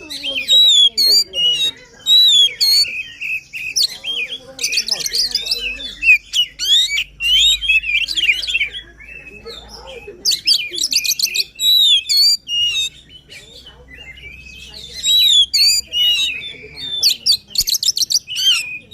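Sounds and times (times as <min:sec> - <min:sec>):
bird singing whistles and trills: 0:00.0 - 0:18.9.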